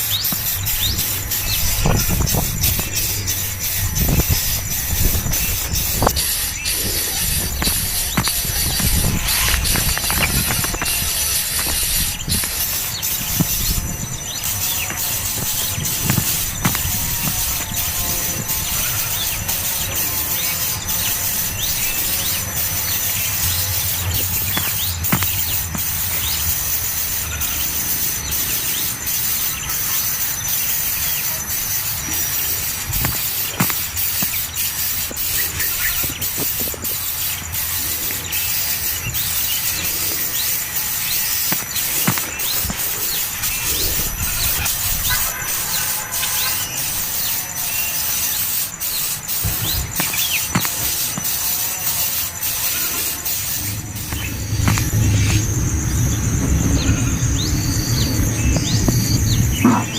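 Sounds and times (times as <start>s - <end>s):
steady high hiss: 0.0s - 59.7s
high insect drone: 0.0s - 59.9s
nestling birds squeaking: 0.0s - 59.9s.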